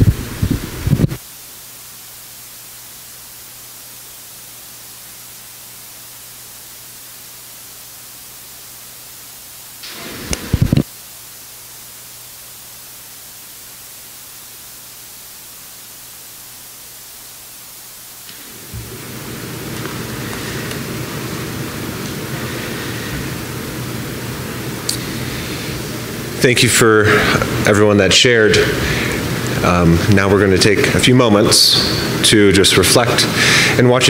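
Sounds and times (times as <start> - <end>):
noise floor hiss: 0.0 - 34.0.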